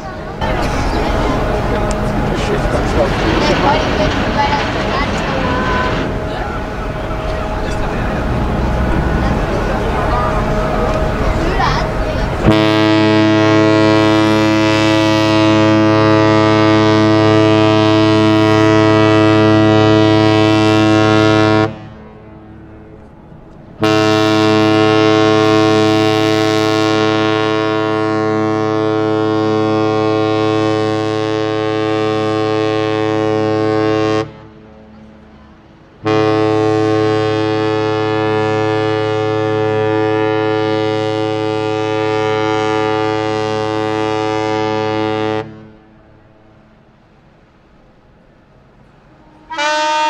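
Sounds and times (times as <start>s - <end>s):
ship's horn blasts: 0.0s - 50.0s.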